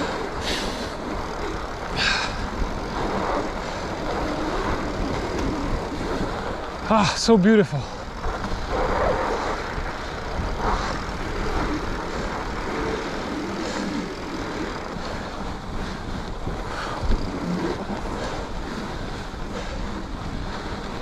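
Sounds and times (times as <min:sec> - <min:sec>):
bike tyres rolling on snow: 0:00.0 - 0:21.0.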